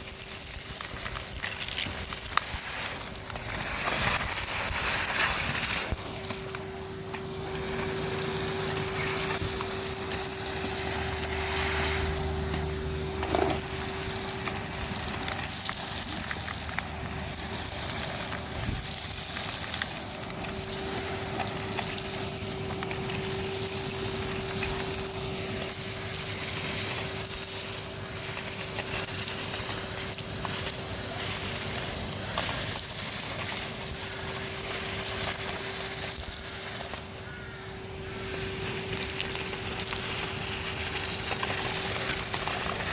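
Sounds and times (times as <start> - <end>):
debris crunching in hose: 0.0 - 42.9
vacuum cleaner motor hum: 0.0 - 42.9.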